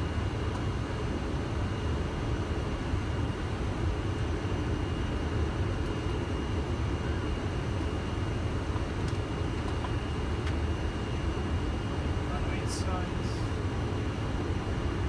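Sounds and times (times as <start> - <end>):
rumble of airflow and engines: 0.0 - 15.0.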